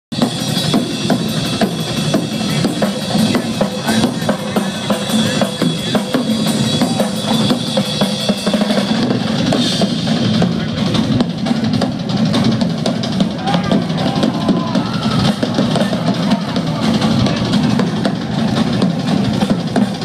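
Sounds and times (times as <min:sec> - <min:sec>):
drum kit played fast: 0:00.1 - 0:20.0.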